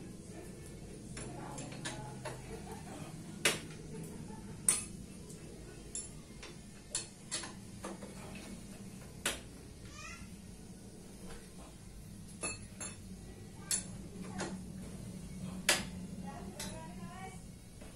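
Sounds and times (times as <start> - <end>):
faint low hum: 0.0 - 17.9.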